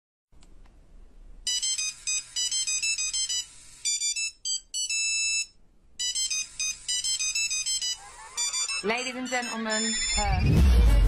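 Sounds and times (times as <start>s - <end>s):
electronic beeping melody: 1.5s - 10.7s.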